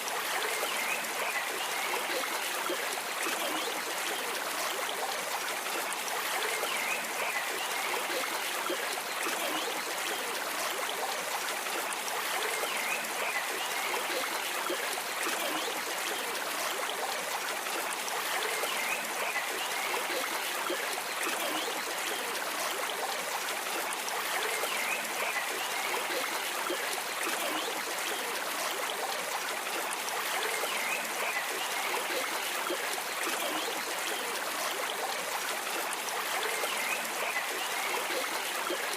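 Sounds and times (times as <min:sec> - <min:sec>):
stream flowing and trickling: 0:00.0 - 0:38.9.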